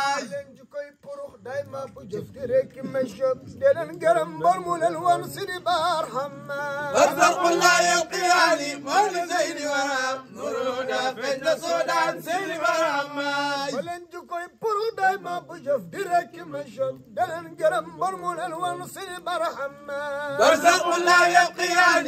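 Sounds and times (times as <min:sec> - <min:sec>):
men chanting devotional song: 0:00.0 - 0:22.0.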